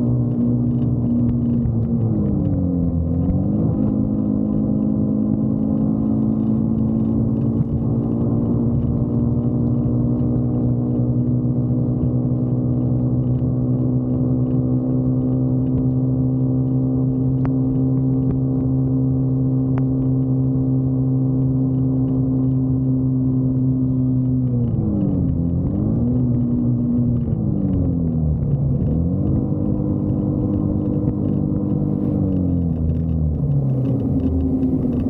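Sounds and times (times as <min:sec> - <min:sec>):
motorcycle engine cruising: 0:00.0 - 0:35.0.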